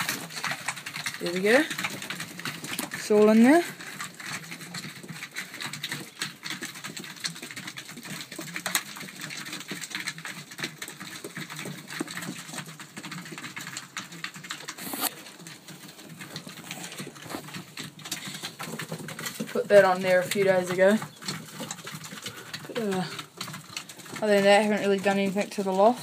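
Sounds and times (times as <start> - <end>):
pigeons pecking grain: 0.0 - 26.0.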